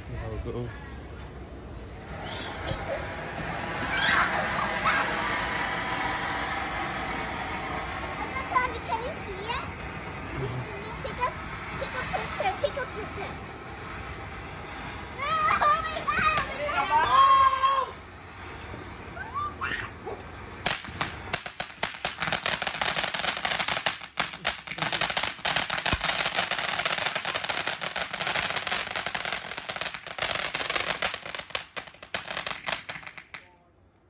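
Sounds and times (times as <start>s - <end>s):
firework hissing and crackling: 0.0s - 33.6s.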